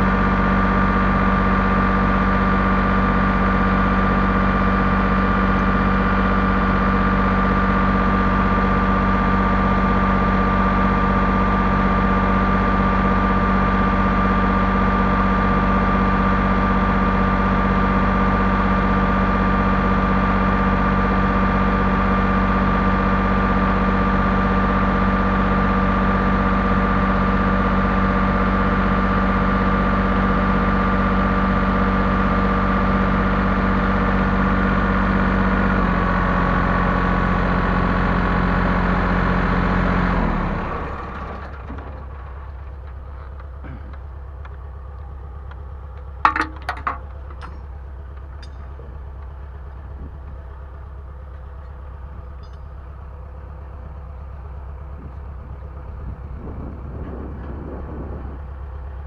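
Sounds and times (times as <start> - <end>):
bulldozer engine idling: 0.0 - 59.0.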